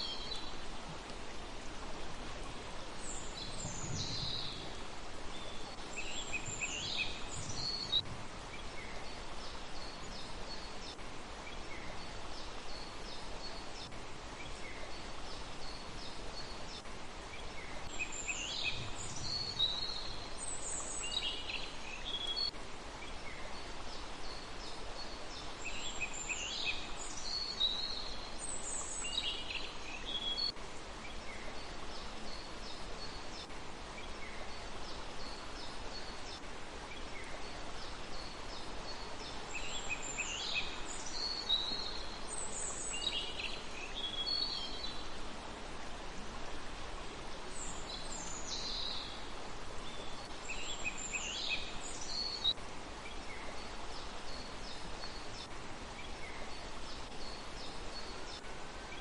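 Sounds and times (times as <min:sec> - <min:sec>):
outdoor hiss: 0:00.0 - 0:59.0
songbird singing: 0:00.0 - 0:59.0.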